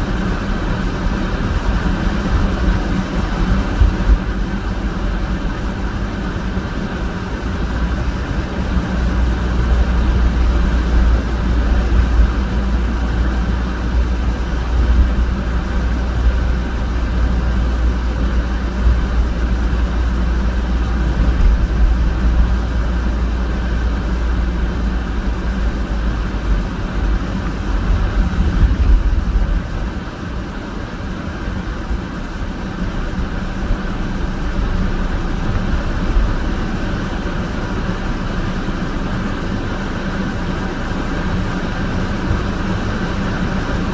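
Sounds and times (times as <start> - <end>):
car driving road noise: 0.0 - 43.9.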